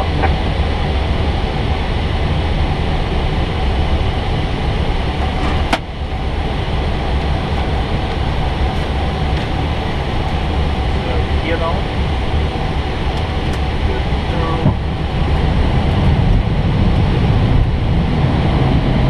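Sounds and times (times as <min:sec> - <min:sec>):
air conditioning airflow rushing: 0:00.0 - 0:19.0
deep low rumble: 0:00.0 - 0:19.0.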